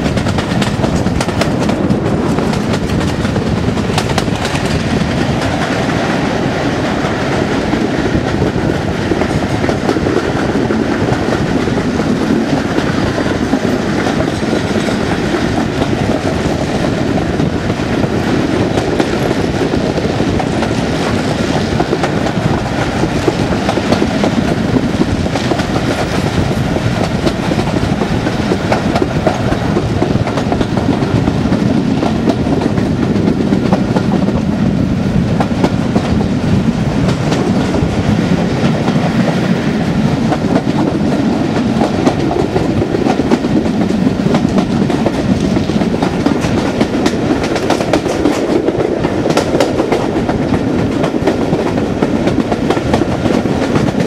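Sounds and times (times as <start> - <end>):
diesel locomotive engine working hard: 0.0 - 54.0
train wheels clickety-clack on rails: 0.0 - 54.0
wind on microphone: 0.0 - 54.0.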